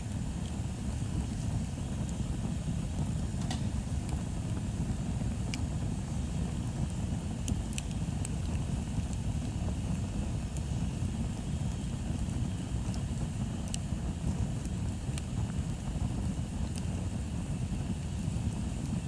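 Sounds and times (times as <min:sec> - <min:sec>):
bonfire crackling: 0:00.0 - 0:19.0
low fire rumble: 0:00.0 - 0:19.0.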